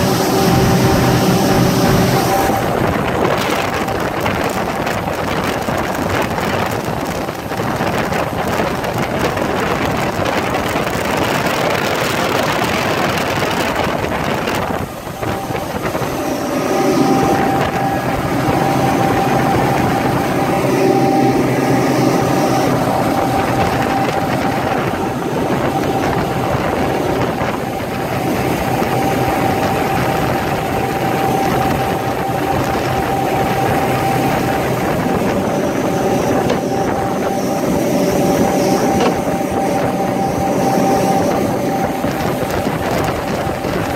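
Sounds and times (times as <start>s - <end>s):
outboard motors running: 0.0s - 43.9s
rush of wind and water: 0.0s - 43.9s.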